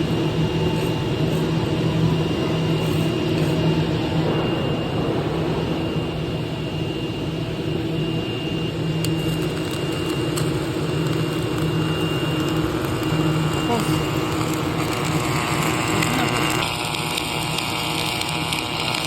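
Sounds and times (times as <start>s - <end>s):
faint high whine: 0.0s - 19.0s
welding machine humming: 0.0s - 19.0s.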